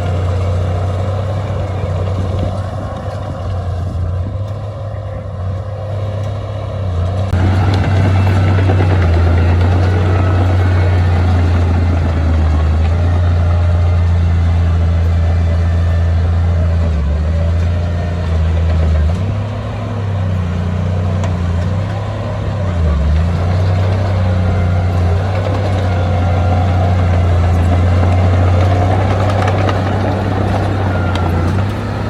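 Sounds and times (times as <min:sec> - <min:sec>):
diesel machinery engine drone: 0:00.0 - 0:32.0.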